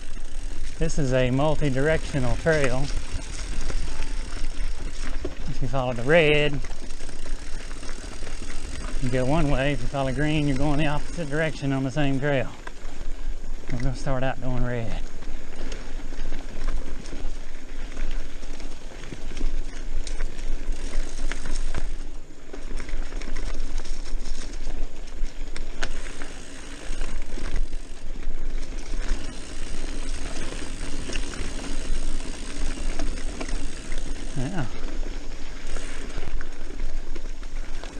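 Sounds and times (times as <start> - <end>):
bike clicks and rattles: 0.0 - 37.9
bike tyres rolling on dirt: 0.0 - 37.9.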